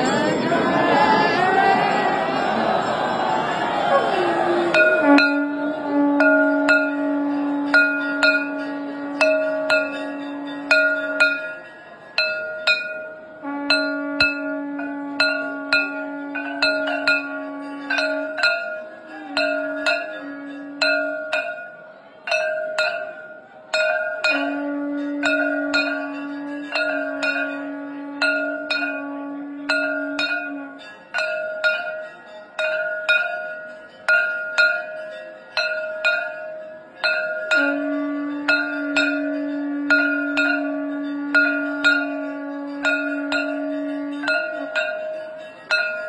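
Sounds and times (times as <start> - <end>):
conch shell blown: 0.0 - 32.1, 35.7 - 46.0
metal bell struck: 4.0 - 46.0.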